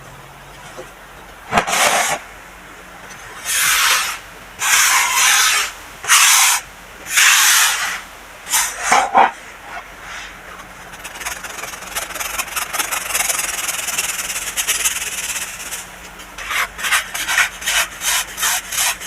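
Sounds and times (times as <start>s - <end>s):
gritty powder rubbing by hand: 3.5s - 19.0s.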